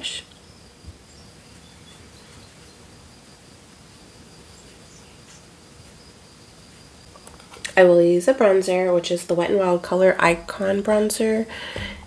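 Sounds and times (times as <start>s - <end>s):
low hiss: 0.0s - 12.0s.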